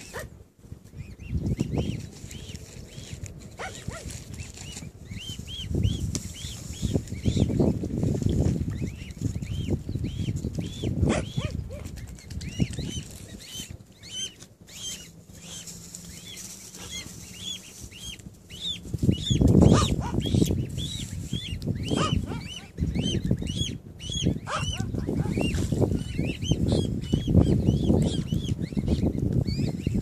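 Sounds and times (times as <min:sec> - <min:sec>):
cygnets peeping: 0:00.0 - 0:30.0.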